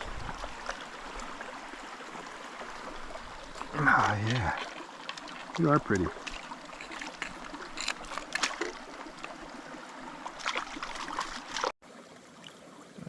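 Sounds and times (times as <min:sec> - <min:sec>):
mountain creek running: 0:00.0 - 0:13.0.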